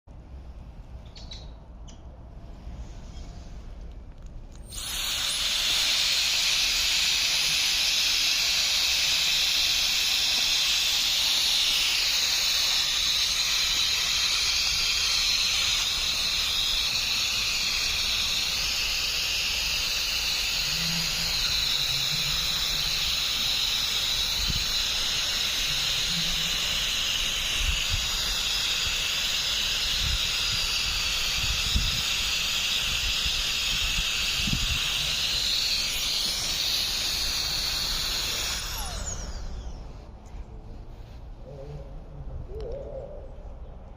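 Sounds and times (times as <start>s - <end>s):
high-pitched hiss: 4.6s - 40.2s.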